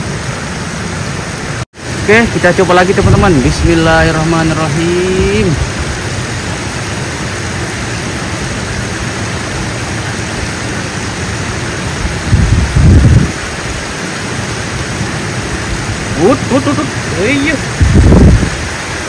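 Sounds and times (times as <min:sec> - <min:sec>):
falling water rushing: 0:00.0 - 0:19.0.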